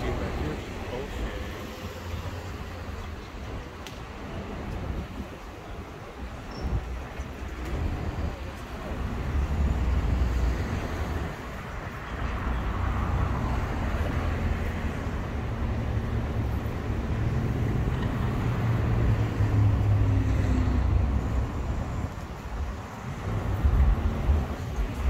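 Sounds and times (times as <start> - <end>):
vehicle engines idling: 0.0 - 25.0.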